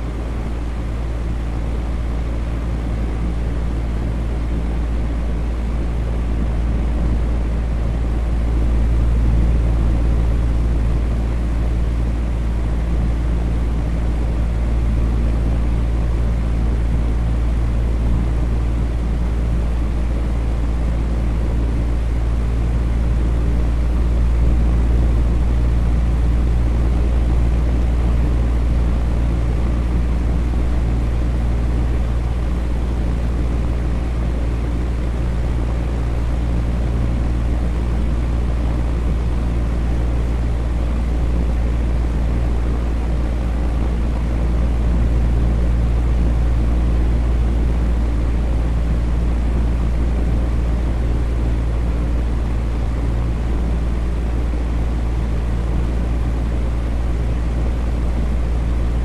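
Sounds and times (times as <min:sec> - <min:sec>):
electric fan whooshing drone: 0:00.0 - 0:59.0.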